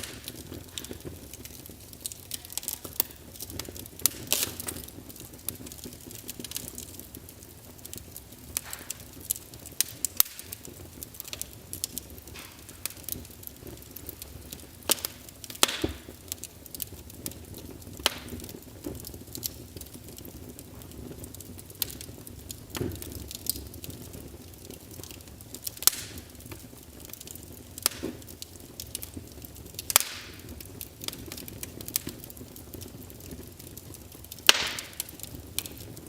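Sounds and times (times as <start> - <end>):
soft fire hiss: 0.0 - 36.0
wood fire crackling and popping: 0.0 - 36.0.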